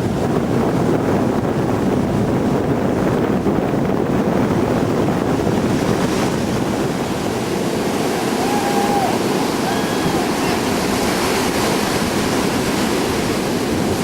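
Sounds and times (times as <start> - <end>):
heavy surf: 0.0 - 14.0
wind buffeting microphone: 0.0 - 14.0.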